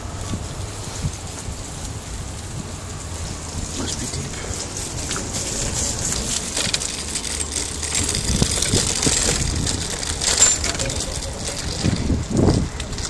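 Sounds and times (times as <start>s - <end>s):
low rumble: 0.0s - 13.0s
rain hissing and pattering: 0.0s - 13.0s.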